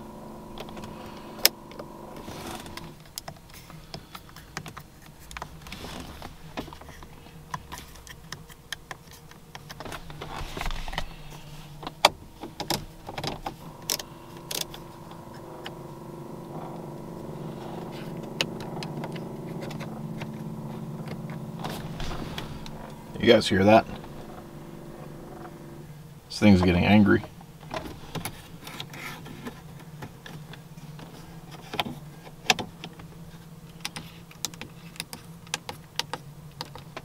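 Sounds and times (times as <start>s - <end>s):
electric motor humming: 0.0s - 34.6s.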